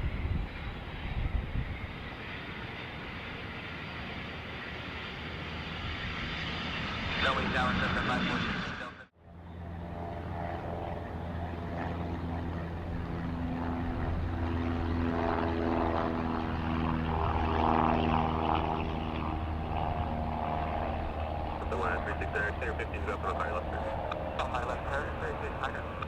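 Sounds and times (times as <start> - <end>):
propeller aircraft engine droning: 0.0 - 26.0.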